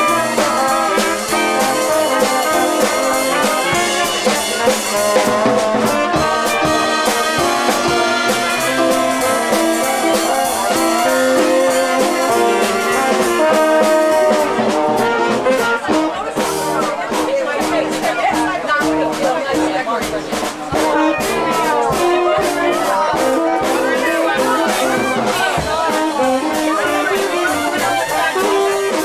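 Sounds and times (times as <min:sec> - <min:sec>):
drum hits: 0:00.0 - 0:29.0
jazz horn section playing: 0:00.0 - 0:29.0.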